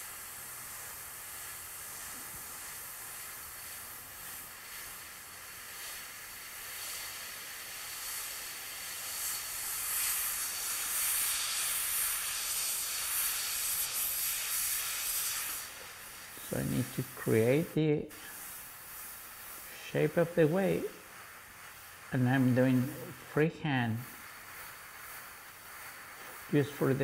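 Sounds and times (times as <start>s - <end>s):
airbrush hissing: 0.0s - 27.0s.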